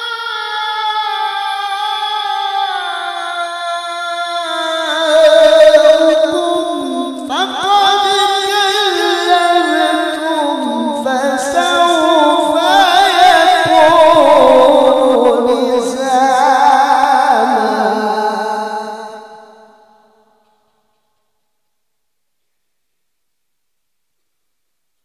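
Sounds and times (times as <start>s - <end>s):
man reciting melodically: 0.0s - 20.2s.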